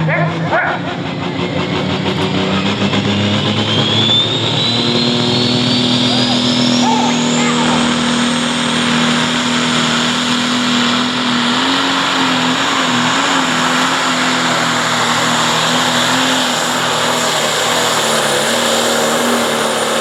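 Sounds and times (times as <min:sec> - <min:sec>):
diesel engine running flat out: 0:00.0 - 0:20.0.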